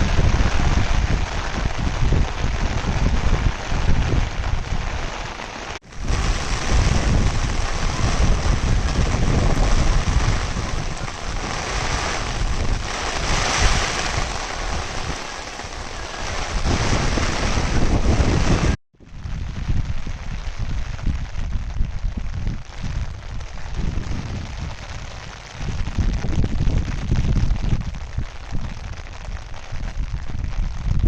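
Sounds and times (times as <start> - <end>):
heavy rain falling: 0.0 - 31.0
wind buffeting microphone: 0.0 - 31.0.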